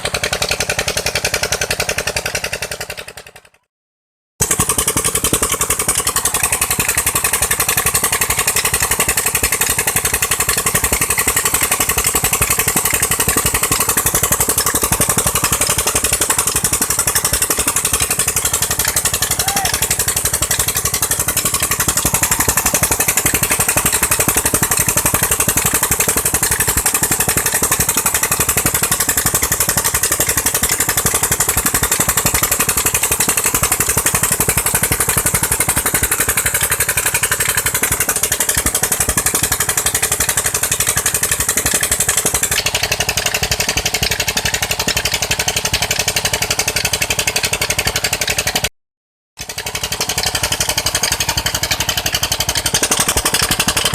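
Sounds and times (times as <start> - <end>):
stationary engine running: 0.0 - 3.7, 4.4 - 48.7, 49.4 - 53.9.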